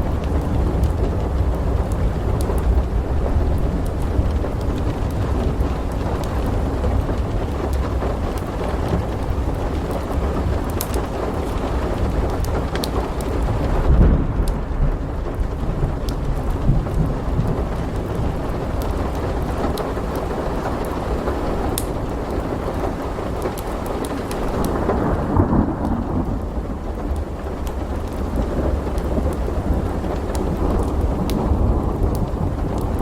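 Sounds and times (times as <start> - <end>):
heavy rain: 0.0 - 33.0
rolling thunder: 0.0 - 33.0
wood fire crackling: 0.0 - 33.0.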